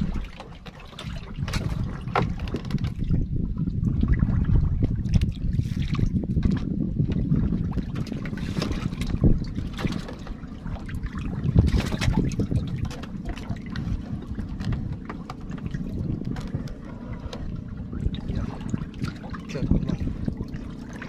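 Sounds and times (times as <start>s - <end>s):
water lapping against boat hull: 0.0s - 21.0s
wind buffeting microphone: 0.0s - 21.0s.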